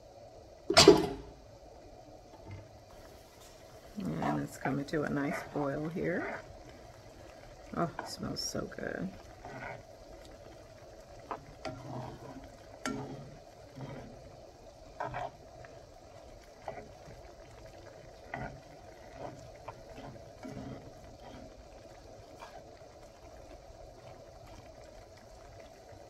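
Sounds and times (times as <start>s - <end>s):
gravy bubbling: 0.0s - 26.0s
short pops of boiling gravy: 0.6s - 1.5s, 2.2s - 26.0s.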